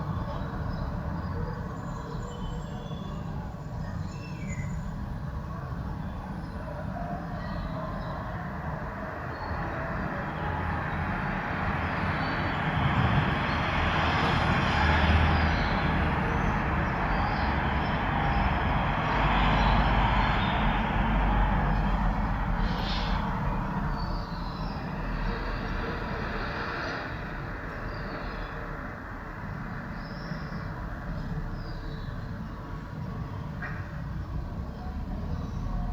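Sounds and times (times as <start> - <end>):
traffic low rumble: 4.7 - 35.9.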